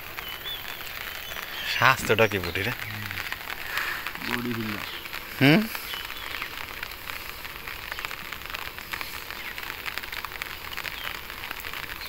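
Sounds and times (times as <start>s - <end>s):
rain falling on water: 0.0s - 12.0s.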